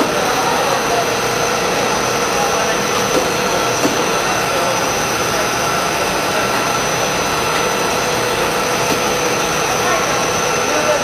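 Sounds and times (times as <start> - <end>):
machine hum and hiss: 0.0 - 11.0.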